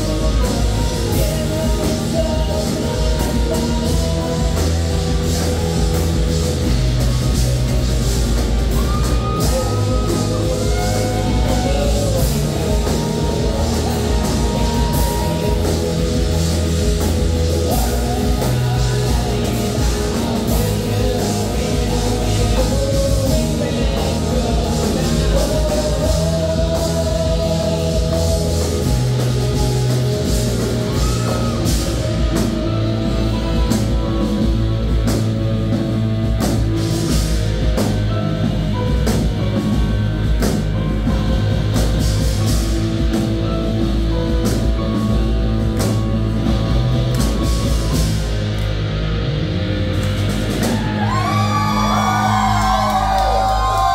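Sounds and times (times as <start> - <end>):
drum kit: 0.0 - 53.9
electric guitars: 0.0 - 53.9
synthesizer: 0.0 - 53.9.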